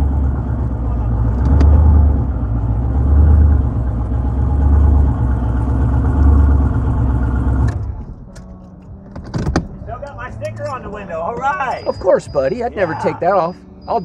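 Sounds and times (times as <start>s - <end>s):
car engine idling: 0.0s - 14.0s
car engine shutting off: 0.0s - 14.0s.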